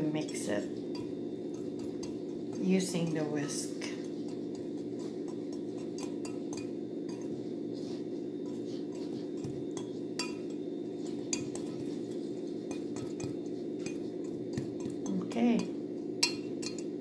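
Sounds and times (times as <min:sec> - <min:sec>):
steady low hum: 0:00.0 - 0:17.0
whisk clinking against glass bowl: 0:00.2 - 0:07.4, 0:08.4 - 0:17.0.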